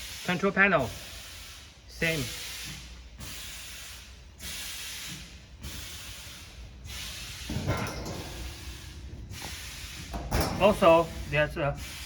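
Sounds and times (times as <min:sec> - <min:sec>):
compressed air hissing: 0:00.0 - 0:12.0.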